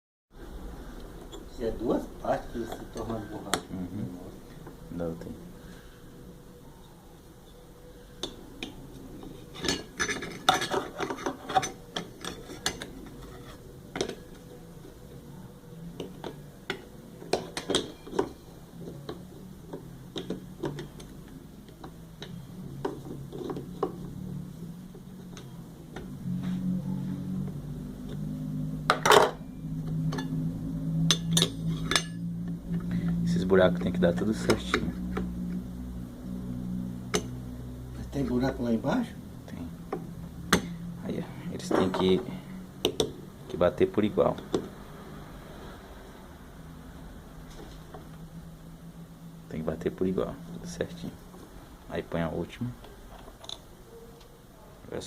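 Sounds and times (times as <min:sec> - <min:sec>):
low hum: 0:00.4 - 0:53.1.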